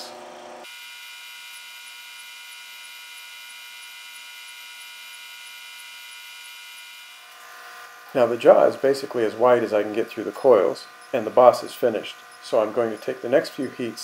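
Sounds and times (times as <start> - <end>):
induction heater electrical whine: 0.0 - 14.0.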